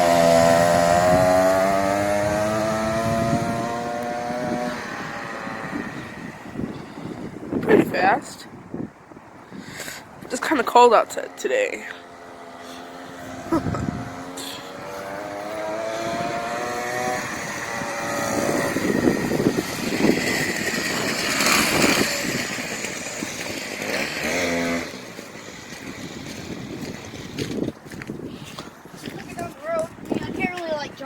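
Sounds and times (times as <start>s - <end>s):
mini dirt bike engine accelerating: 0.0s - 7.6s, 10.7s - 31.0s.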